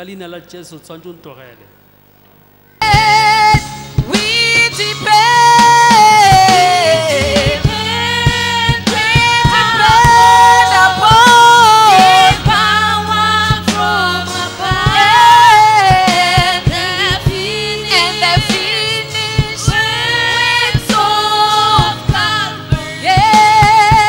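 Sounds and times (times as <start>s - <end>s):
bass line: 2.8s - 24.0s
drum beats: 2.8s - 24.0s
person singing gospel melody: 2.8s - 24.0s.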